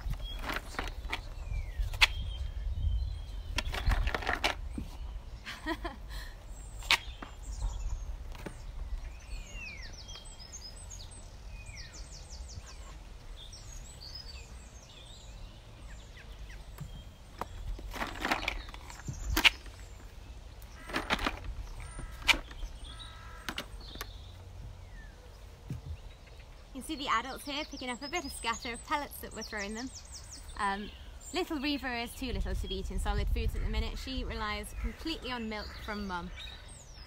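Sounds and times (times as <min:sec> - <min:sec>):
low wind rumble: 0:00.0 - 0:37.0
rustles: 0:00.0 - 0:37.0
small birds chirping: 0:00.0 - 0:37.0.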